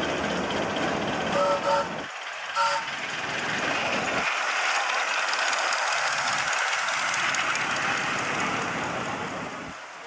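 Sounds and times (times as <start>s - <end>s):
miniature steam locomotive running: 0.0s - 10.0s
wheels rattling on rails: 0.0s - 10.0s.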